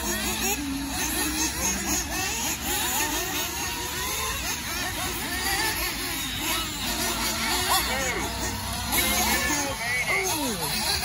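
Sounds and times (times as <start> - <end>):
rc car engines revving: 0.0 - 11.0.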